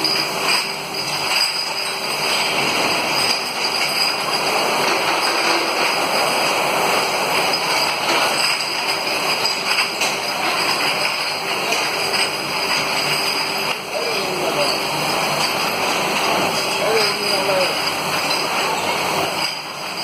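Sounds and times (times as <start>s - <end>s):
bottle washing machine clatter: 0.0s - 20.0s.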